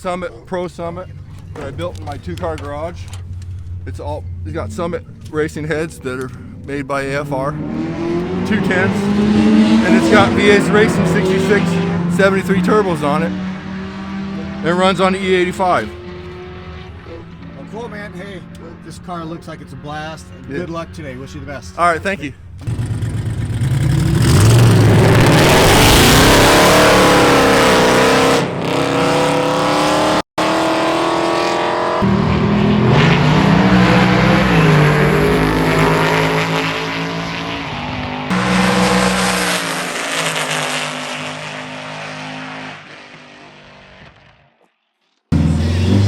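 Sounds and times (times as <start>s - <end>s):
race car engines revving hard: 0.7s - 44.2s, 45.3s - 46.0s.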